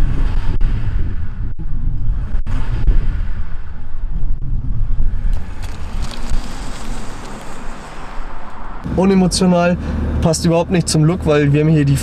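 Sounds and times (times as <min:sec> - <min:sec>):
diesel engine low rumble: 0:00.0 - 0:12.0.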